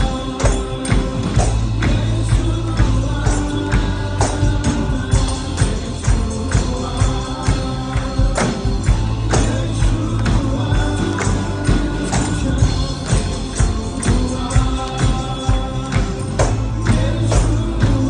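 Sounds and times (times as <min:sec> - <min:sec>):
church worship music: 0:00.0 - 0:18.0
people singing: 0:00.0 - 0:18.0
tambourine: 0:00.0 - 0:18.0.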